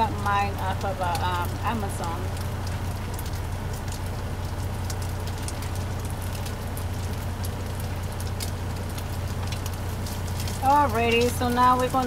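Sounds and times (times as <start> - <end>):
sausage sizzling in a skillet: 0.0 - 12.0
steady low hum: 0.0 - 12.0.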